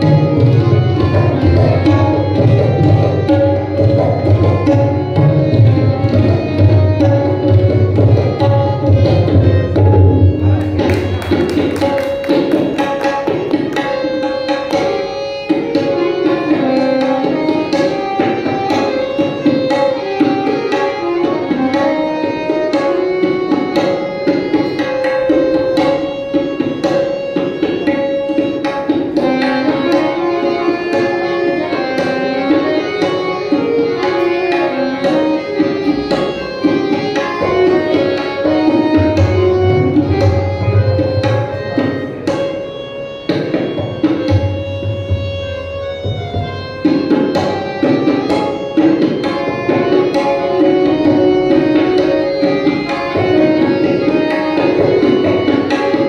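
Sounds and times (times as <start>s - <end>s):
harmonium melody: 0.0s - 56.0s
tabla drumming: 0.0s - 56.0s.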